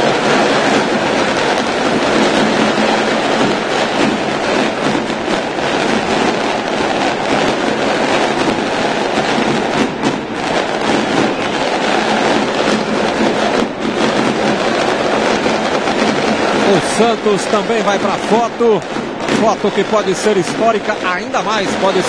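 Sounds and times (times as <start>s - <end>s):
fireworks crackling: 0.0s - 22.0s
stadium crowd cheering: 0.0s - 22.0s.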